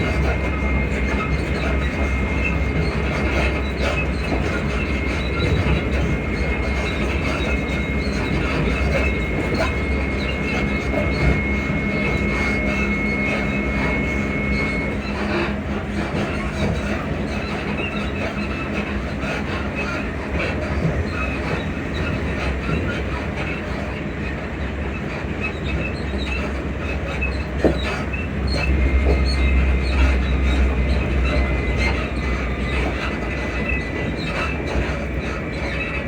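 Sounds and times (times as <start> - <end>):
train wheels rumbling and rattling: 0.0 - 36.0.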